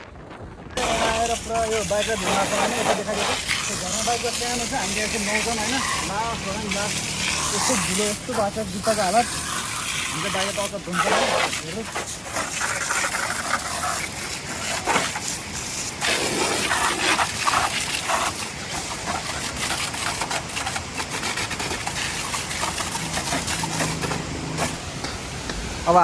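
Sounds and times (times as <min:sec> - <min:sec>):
water spraying and splashing: 0:00.8 - 0:26.0.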